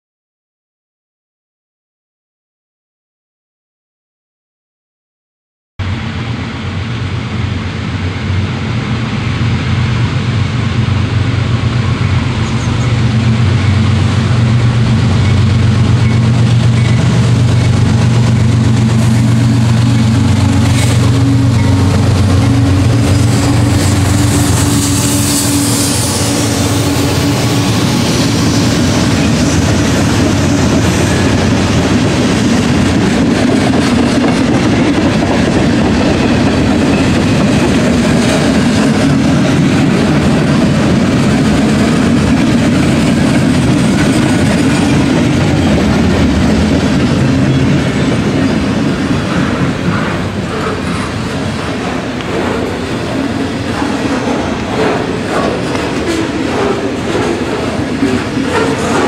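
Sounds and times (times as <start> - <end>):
diesel locomotive drone: 5.8 - 59.0
train wheels clattering on rails: 10.4 - 59.0.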